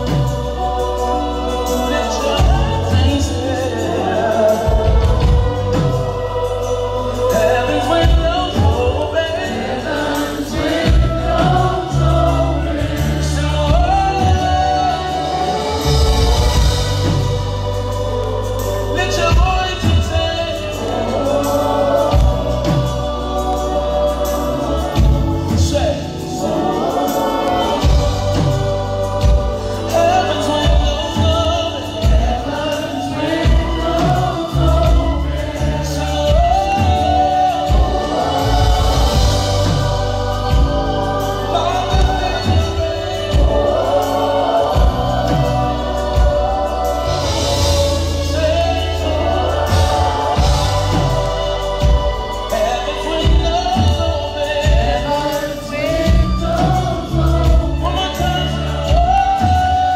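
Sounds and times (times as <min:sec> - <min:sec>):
deep bass line: 0:00.0 - 0:59.9
group singing gospel: 0:00.0 - 0:59.9
percussion: 0:00.0 - 0:59.9.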